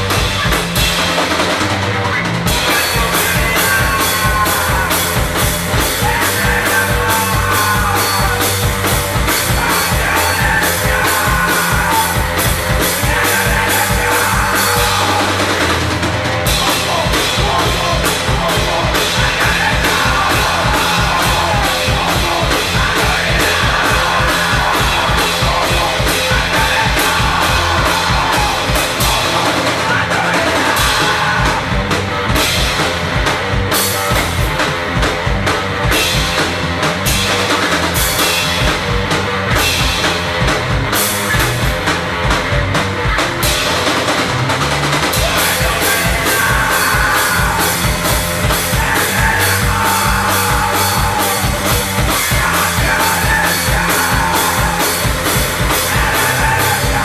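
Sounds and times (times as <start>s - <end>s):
drums pounding: 0.0s - 57.0s
punk rock band: 0.0s - 57.0s.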